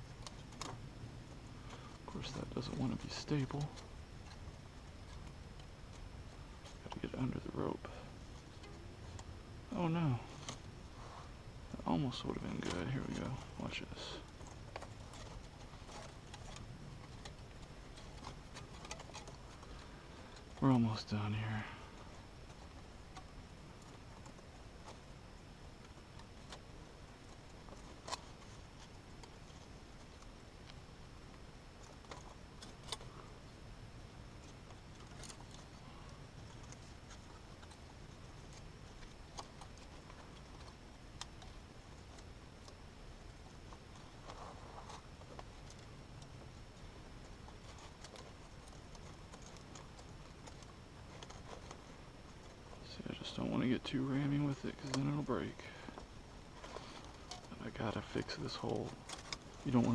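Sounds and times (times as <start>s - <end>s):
low steady background: 0.0s - 59.9s.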